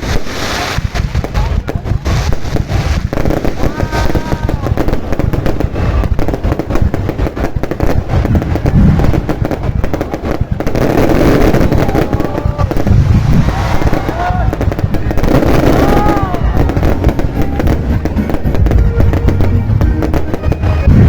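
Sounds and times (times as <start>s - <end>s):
deep fireworks booms: 0.0s - 21.0s
fireworks bangs and crackles: 0.0s - 21.0s.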